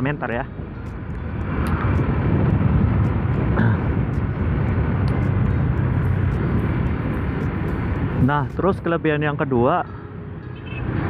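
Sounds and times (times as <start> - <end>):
wind rush: 0.0 - 9.0
road noise: 0.0 - 11.0
traffic: 0.0 - 11.0.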